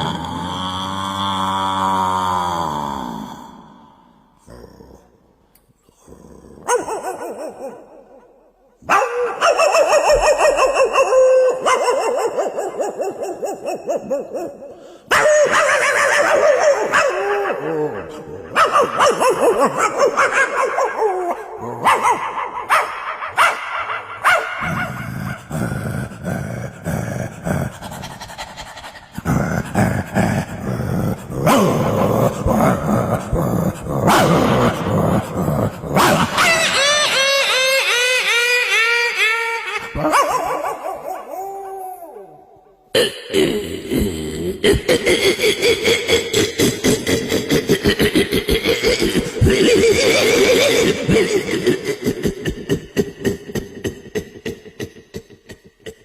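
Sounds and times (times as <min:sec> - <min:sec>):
person making wavering calls: 0:00.0 - 0:04.2, 0:09.2 - 0:56.0.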